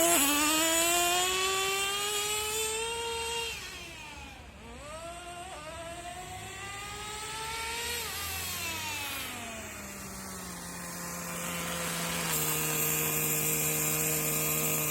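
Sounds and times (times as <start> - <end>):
small nitro engine revving and idling: 0.0 - 14.9.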